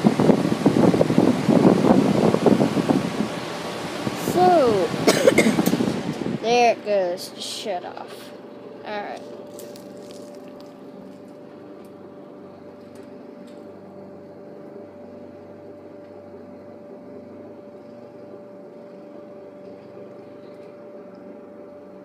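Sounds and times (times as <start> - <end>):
air conditioner fan humming: 0.0 - 22.0.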